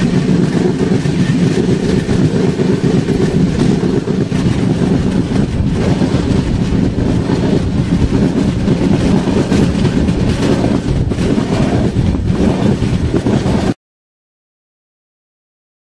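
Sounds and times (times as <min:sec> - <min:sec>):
train wheels rumbling on rails: 0:00.0 - 0:13.8
wheels knocking over rail joints: 0:00.0 - 0:13.8.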